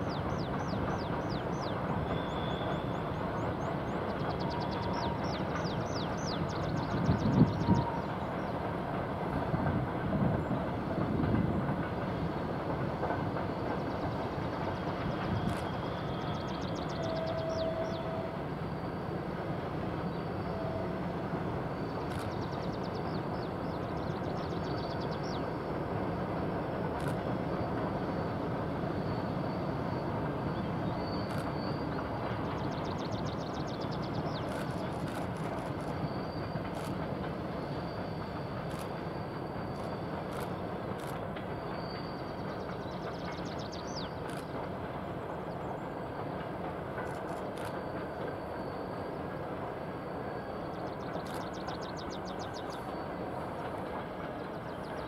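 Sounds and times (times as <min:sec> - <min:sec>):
faint clickety-clack: 0:00.1 - 0:19.4, 0:20.0 - 0:55.0.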